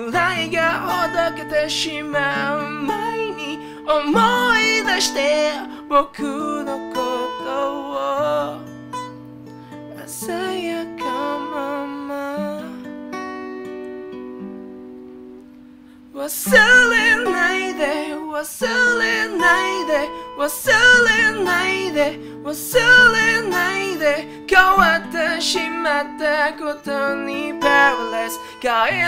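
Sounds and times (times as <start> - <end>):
man singing: 0.0 - 8.7, 9.9 - 12.9, 16.1 - 29.0
acoustic guitar: 0.0 - 29.0.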